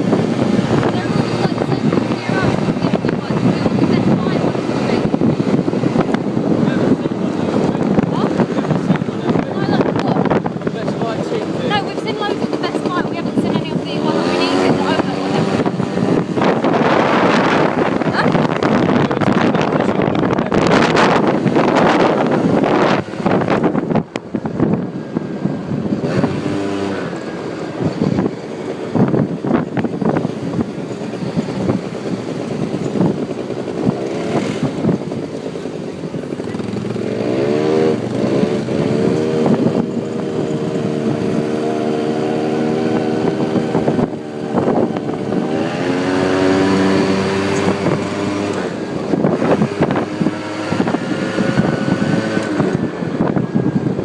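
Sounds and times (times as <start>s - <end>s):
quad bike engine running: 0.0s - 54.0s
wind buffeting microphone: 0.0s - 54.0s.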